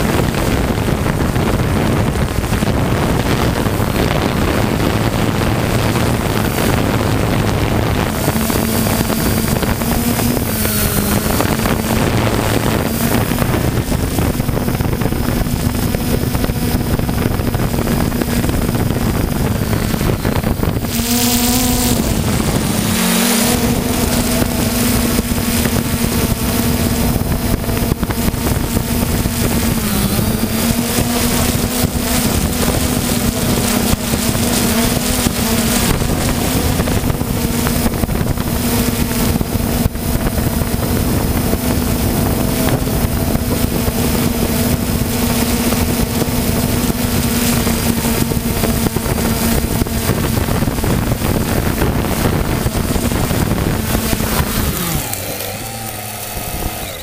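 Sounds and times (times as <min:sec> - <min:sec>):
drone propellers humming: 0:00.0 - 0:57.0
wind noise on microphone: 0:00.0 - 0:57.0.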